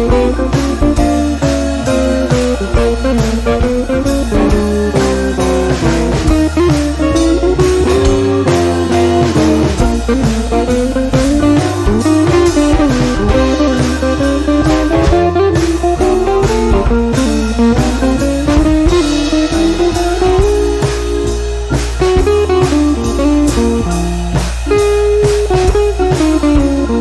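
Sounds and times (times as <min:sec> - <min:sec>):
drums steady beat: 0:00.0 - 0:27.0
guitar-led music: 0:00.0 - 0:27.0.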